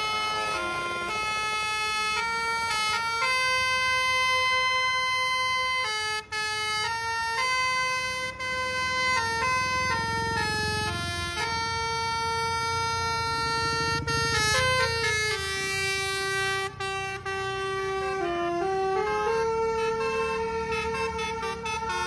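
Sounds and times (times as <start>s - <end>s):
multi-tone horn playing a tune: 0.0s - 22.0s.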